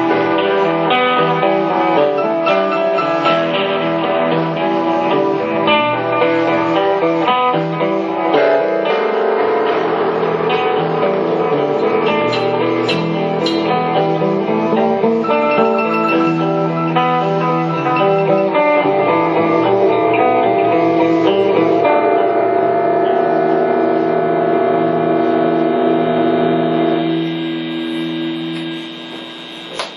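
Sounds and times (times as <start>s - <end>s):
live keyboard music: 0.0s - 29.9s.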